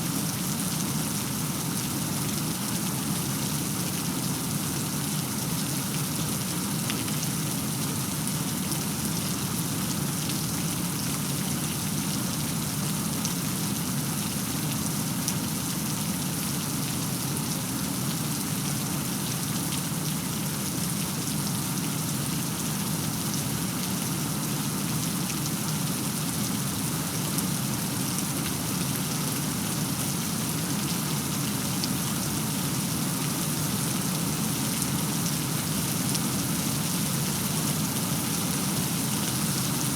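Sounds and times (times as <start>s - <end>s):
steady rainfall: 0.1s - 39.9s.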